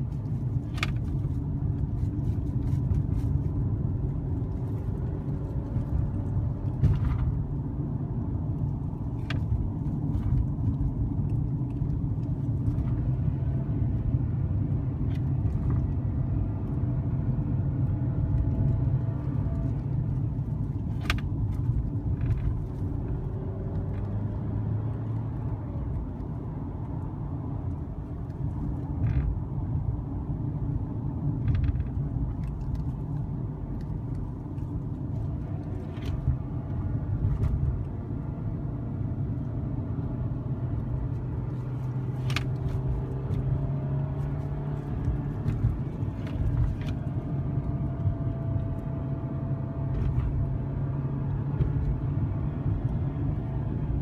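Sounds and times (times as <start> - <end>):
car engine: 0.0 - 54.0
road noise rumble: 0.0 - 54.0.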